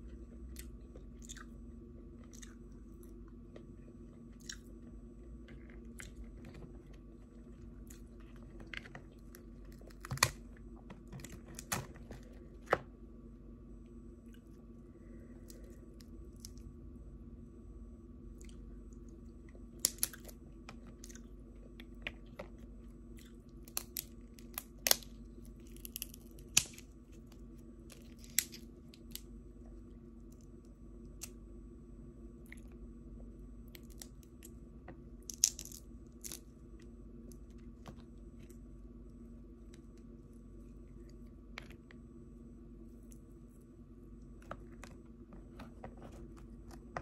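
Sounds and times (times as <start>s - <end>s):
cracks and crunches of eating: 0.0s - 12.9s, 14.2s - 16.8s, 18.3s - 31.4s, 32.4s - 32.8s, 33.7s - 38.7s, 39.6s - 42.0s, 44.2s - 47.0s
steady low hum: 0.0s - 47.0s.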